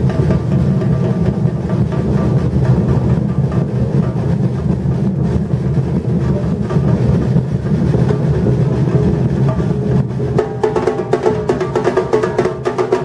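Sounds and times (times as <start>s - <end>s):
drum ensemble playing: 0.0s - 13.0s
sharp high drum strokes: 0.0s - 13.0s.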